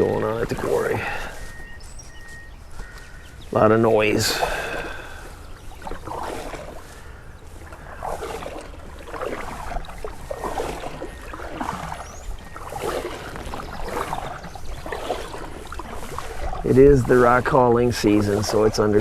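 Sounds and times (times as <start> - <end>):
distant machinery rumble: 0.0 - 19.0
paddle strokes swishing in water: 0.0 - 19.0.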